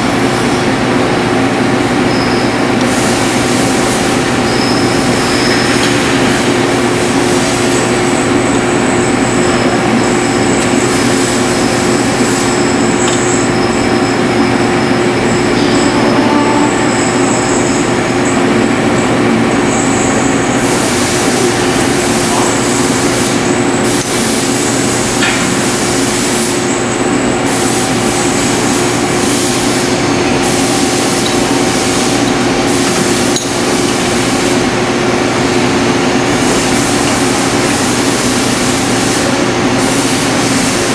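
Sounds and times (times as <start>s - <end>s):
metal lathe humming: 0.0s - 40.9s
high thin whine: 1.7s - 40.9s.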